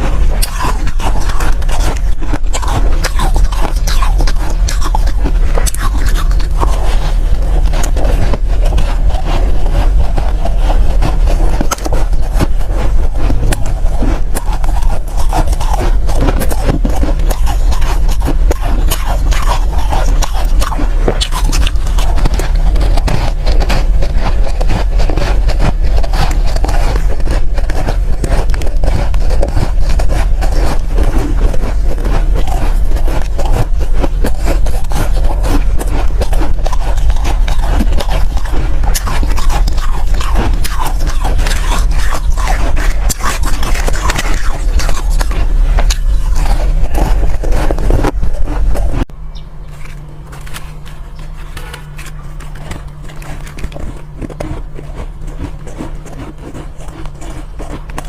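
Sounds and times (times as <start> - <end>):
shaved ice crunched and chewed: 0.0 - 58.0
steady low hum: 0.0 - 58.0.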